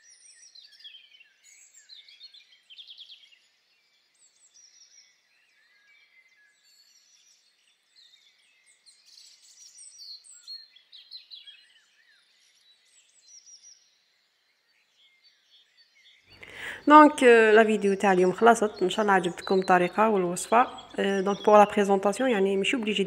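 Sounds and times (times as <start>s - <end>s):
songbirds chirping: 0.1s - 23.0s.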